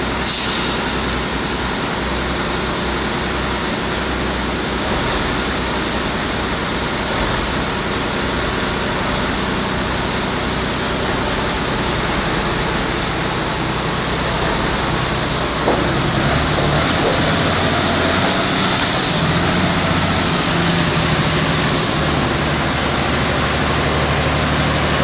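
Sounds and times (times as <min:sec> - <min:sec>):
milling machine engine running: 0:00.0 - 0:25.0.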